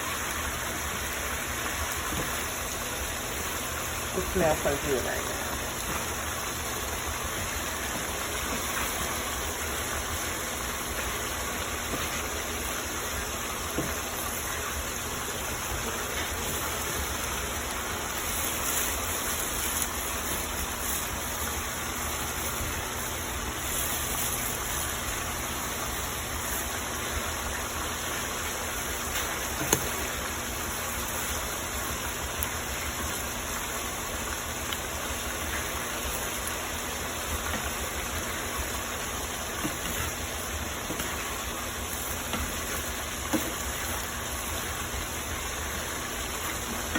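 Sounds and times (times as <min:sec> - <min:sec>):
food sizzling in a frying pan: 0:00.0 - 0:46.9.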